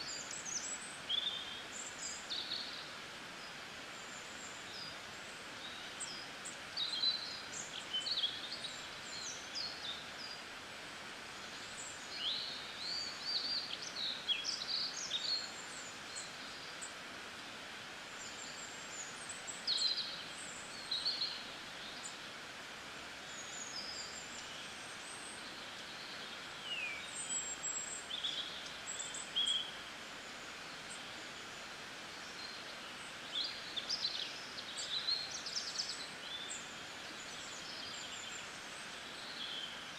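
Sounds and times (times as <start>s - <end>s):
small birds chirping: 0.0s - 17.2s, 17.9s - 39.9s
rain hiss: 0.0s - 39.9s.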